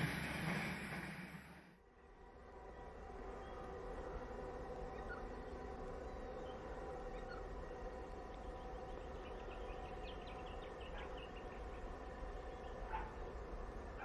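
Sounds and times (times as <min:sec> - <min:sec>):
distant diesel locomotives droning: 0:00.0 - 0:14.0.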